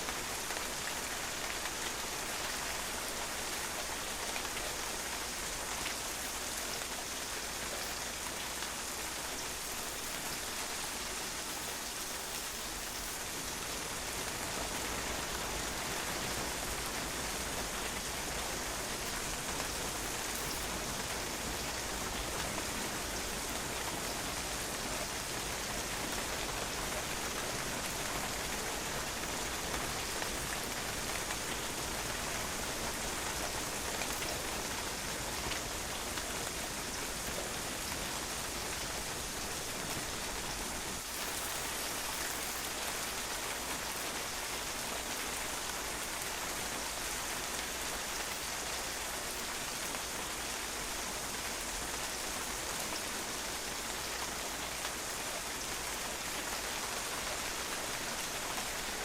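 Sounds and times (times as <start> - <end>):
rain pattering on patio: 0.0 - 59.0.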